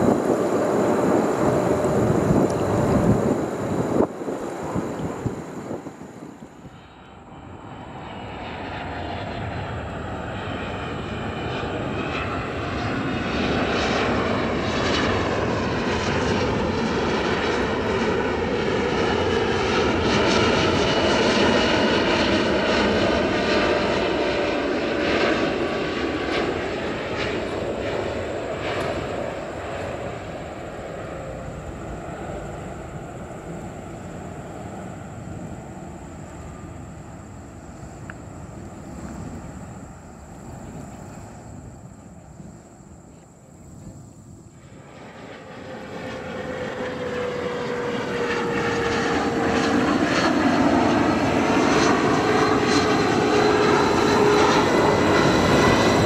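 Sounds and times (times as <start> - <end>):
jet engine whine falling in pitch: 0.0 - 56.0
jet engines rumbling: 0.0 - 56.0.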